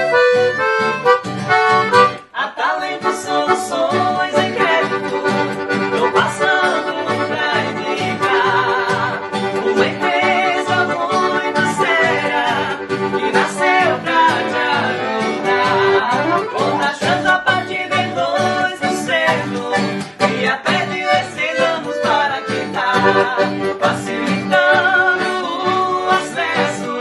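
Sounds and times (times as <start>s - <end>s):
accordion music: 0.0s - 27.0s
person singing: 2.2s - 27.0s.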